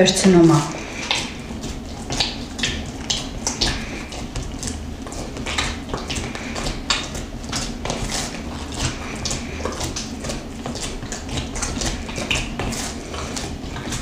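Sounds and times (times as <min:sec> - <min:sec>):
hands kneading wet dough: 0:00.0 - 0:14.0.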